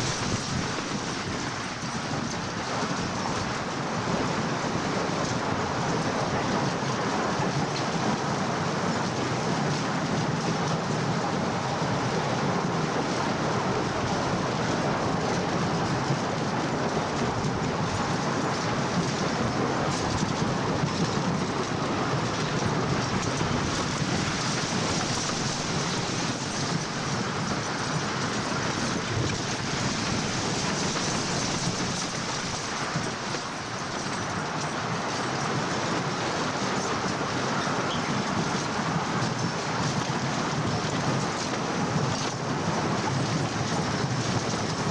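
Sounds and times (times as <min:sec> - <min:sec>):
roller coaster wheels on wooden track: 0:00.0 - 0:44.9.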